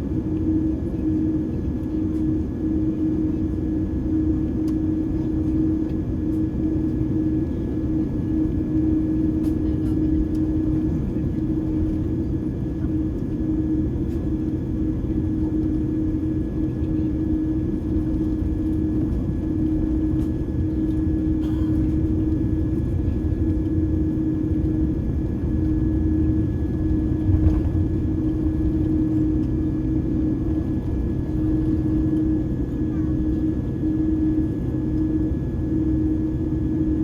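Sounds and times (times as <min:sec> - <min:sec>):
jet engines rumbling: 0:00.0 - 0:36.4
constant cabin hum: 0:00.0 - 0:37.0.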